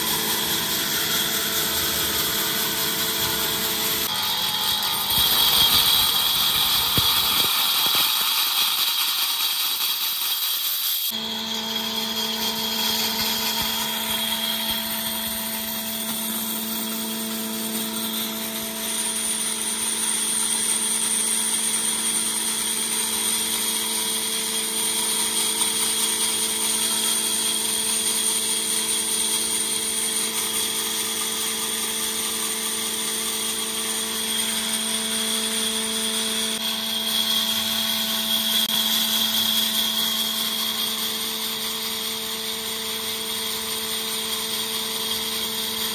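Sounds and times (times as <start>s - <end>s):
woodworking machine motor hum: 0.0s - 8.9s, 11.1s - 45.9s
band saw cutting wood: 0.0s - 45.9s.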